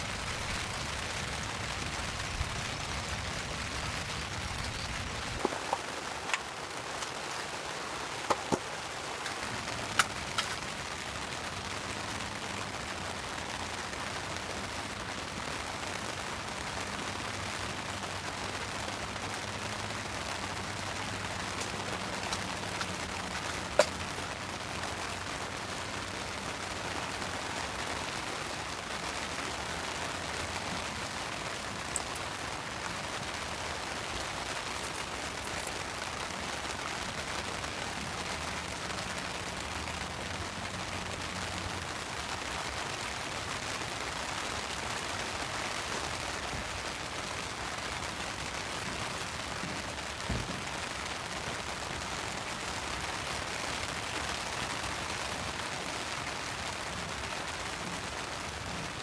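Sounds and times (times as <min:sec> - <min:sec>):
campfire popping and cracking: 0:00.0 - 0:59.0
rain falling: 0:00.0 - 0:59.0.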